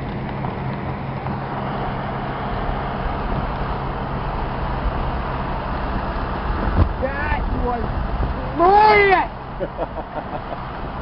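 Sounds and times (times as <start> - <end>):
low engine hum: 0.0 - 11.0
road noise: 0.0 - 11.0
rushing wind: 0.0 - 11.0.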